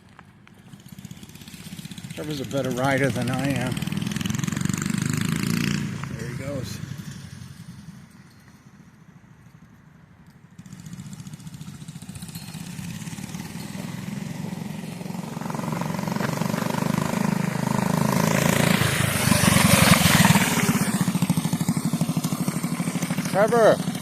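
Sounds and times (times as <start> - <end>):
small motorbike engine revving: 0.6 - 8.1, 10.5 - 24.0.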